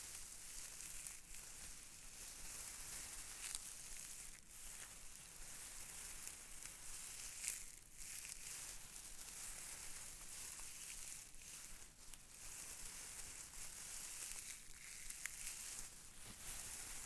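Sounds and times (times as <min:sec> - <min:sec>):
material crinkling and rustling: 0:00.0 - 0:17.0.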